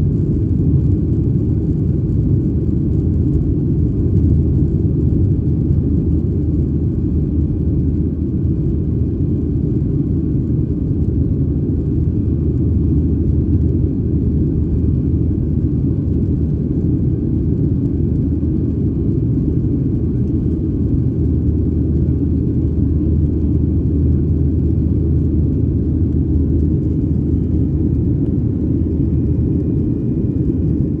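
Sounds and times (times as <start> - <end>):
jet engine rumble in cabin: 0.0 - 31.0.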